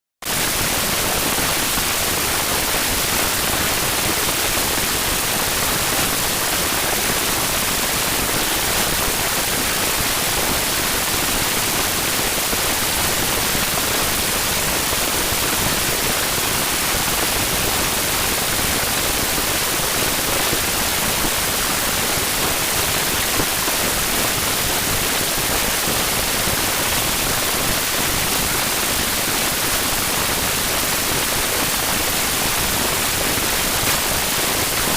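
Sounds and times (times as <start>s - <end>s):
white noise hiss: 0.3s - 34.9s.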